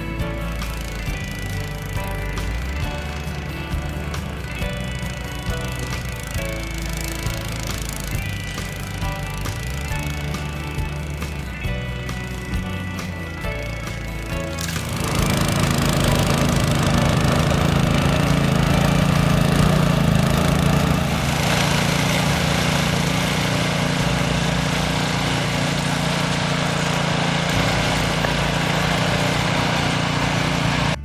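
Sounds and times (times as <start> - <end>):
snowblower engine running: 0.0 - 31.0.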